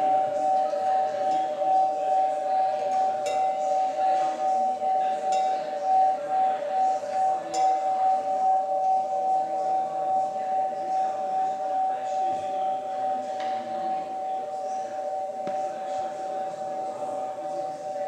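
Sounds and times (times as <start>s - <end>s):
glass carafes ringing: 0.0s - 18.0s.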